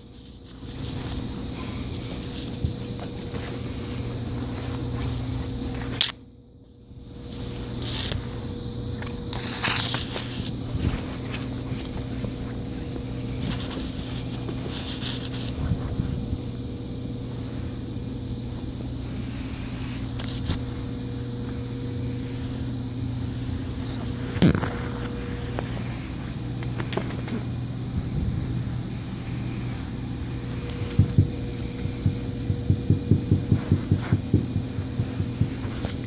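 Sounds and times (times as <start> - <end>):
rustling and handling noise: 0.0 - 6.4, 7.0 - 36.0
low mechanical hum: 0.0 - 36.0.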